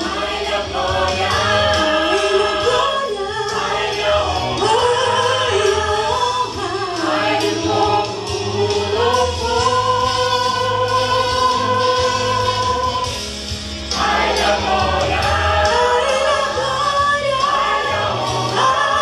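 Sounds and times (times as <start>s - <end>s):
choir singing: 0.0s - 13.2s, 13.8s - 19.0s.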